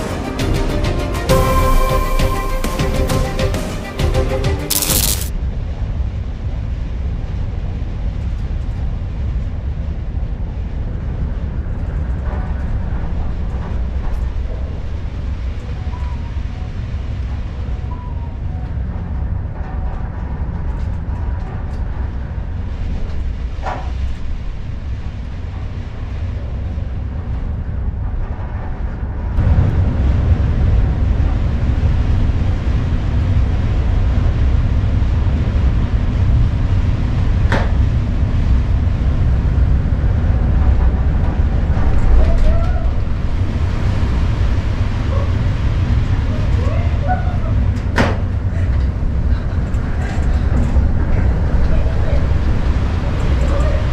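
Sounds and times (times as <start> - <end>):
storm wind: 5.3 - 53.9
rough sea: 8.8 - 53.9.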